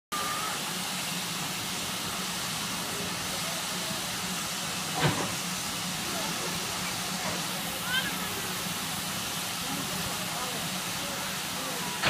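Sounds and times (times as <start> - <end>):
steam hissing from locomotive: 0.2 - 12.0.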